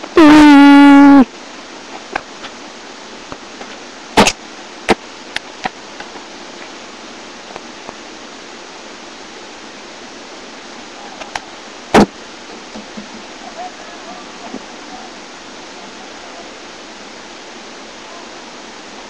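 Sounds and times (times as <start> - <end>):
microphone hiss: 0.0 - 19.0.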